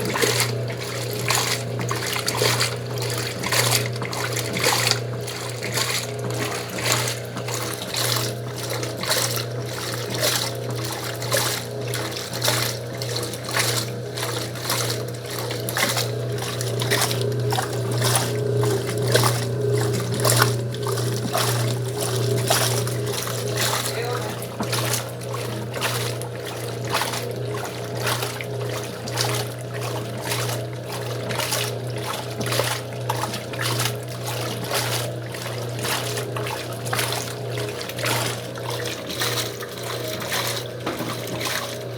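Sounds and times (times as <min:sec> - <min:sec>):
washing machine motor hum: 0:00.0 - 0:41.9
water splashing and sloshing: 0:00.0 - 0:41.9.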